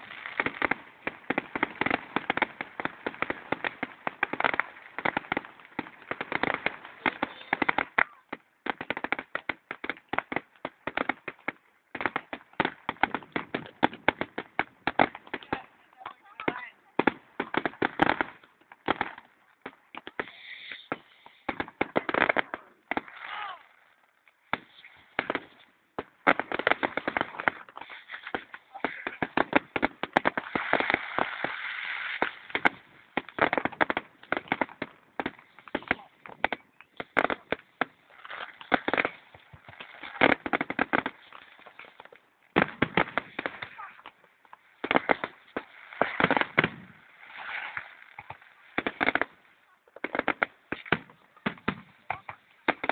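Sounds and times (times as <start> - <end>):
crackling fireworks shells: 0.0 - 52.9
fireworks bangs: 0.0 - 52.9.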